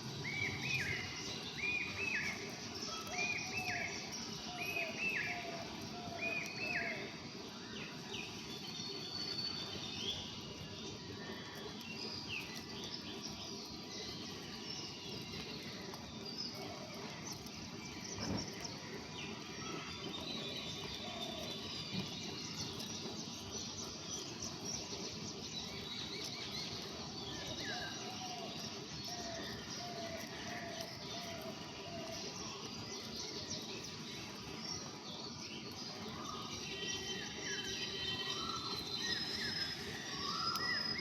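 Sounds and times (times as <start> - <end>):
outdoor background hiss: 0.0 - 41.0
wild birds chirping: 0.0 - 41.0.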